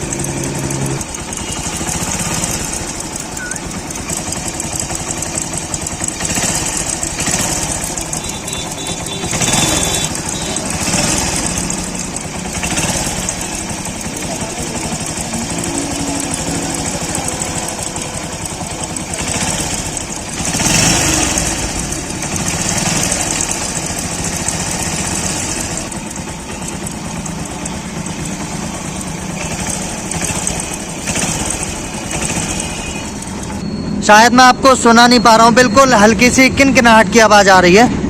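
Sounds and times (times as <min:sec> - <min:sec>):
faint clutch rattle: 0:00.0 - 0:33.6
motorcycle engine idling: 0:00.0 - 0:37.8.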